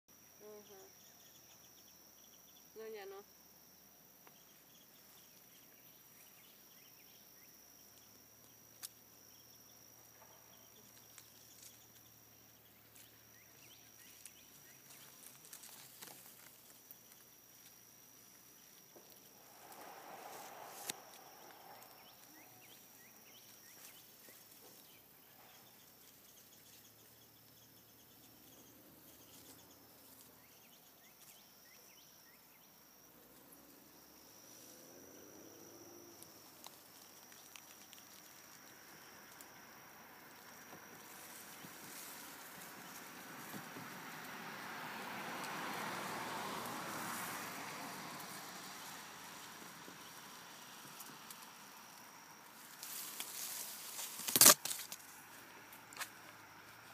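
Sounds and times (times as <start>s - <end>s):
high-pitched insect trill: 0.1s - 56.9s.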